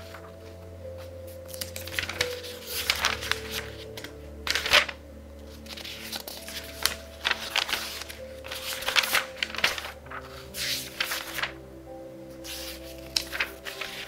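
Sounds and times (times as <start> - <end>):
book pages turning: 0.0 - 11.7, 12.3 - 14.0
soft background music: 0.0 - 14.0.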